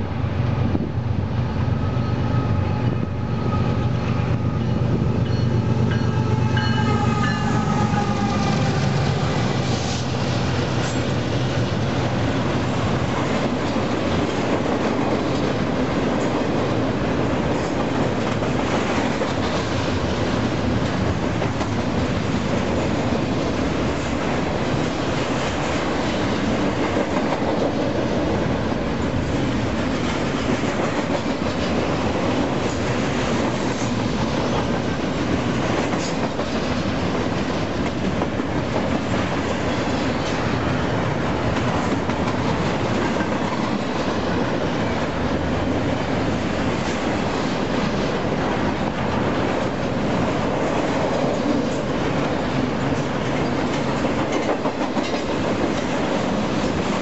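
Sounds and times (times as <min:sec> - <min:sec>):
steel wheels running on rails: 0:00.5 - 0:57.0.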